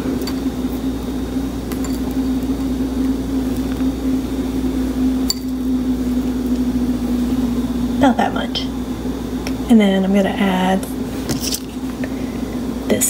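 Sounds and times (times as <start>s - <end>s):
appliance hum: 0.0s - 13.0s.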